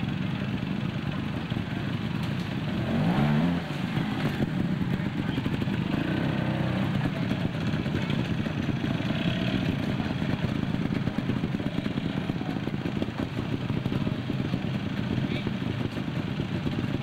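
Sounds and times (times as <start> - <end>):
motorcycle engines chattering: 0.0 - 17.0.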